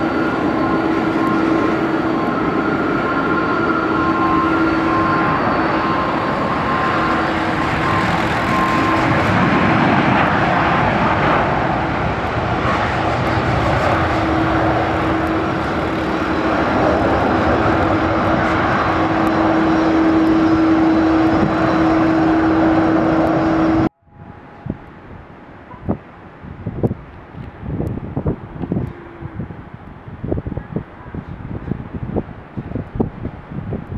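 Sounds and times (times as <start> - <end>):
airliner engines roaring: 0.0 - 33.9.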